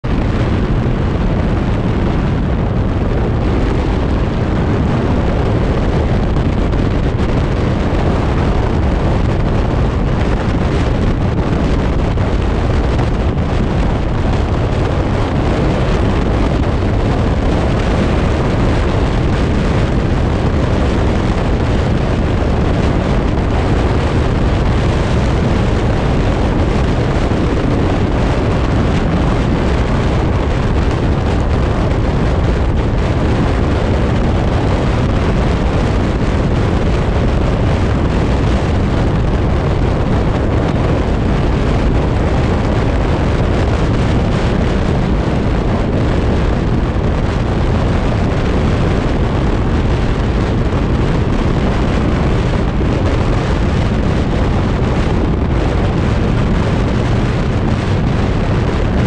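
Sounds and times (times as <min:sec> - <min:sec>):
vehicle road noise: 0:00.0 - 0:59.0
wind on microphone: 0:00.0 - 0:59.0.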